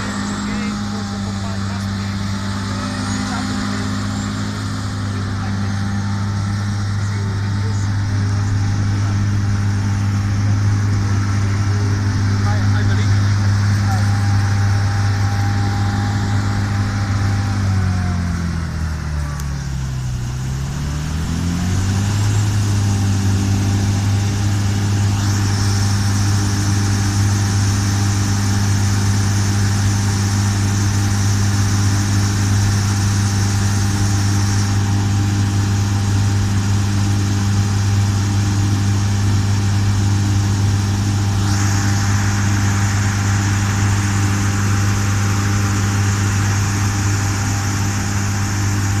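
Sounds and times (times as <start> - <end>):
diesel engine running: 0.0 - 49.0
steady high whine: 0.0 - 49.0.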